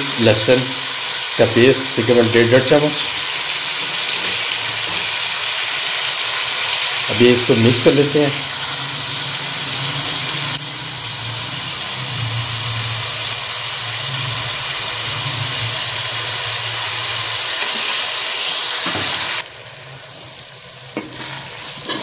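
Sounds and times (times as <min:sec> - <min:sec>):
food sizzling in hot fat: 0:00.0 - 0:22.0.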